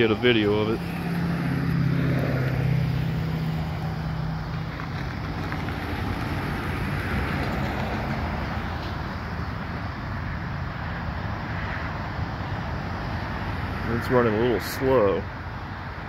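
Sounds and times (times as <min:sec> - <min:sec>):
vehicle driving past: 0:00.0 - 0:14.9
low engine hum: 0:00.0 - 0:16.0
road noise: 0:00.0 - 0:16.0.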